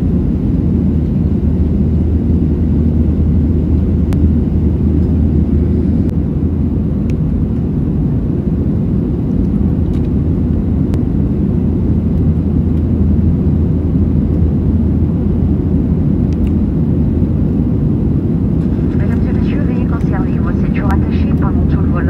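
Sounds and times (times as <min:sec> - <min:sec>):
aircraft cabin engine rumble: 0:00.0 - 0:22.0
constant low hum: 0:00.0 - 0:22.0.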